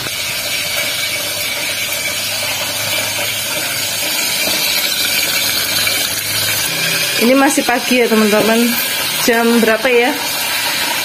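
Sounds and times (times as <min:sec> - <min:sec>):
chillies sizzling in oil: 0:00.0 - 0:11.0.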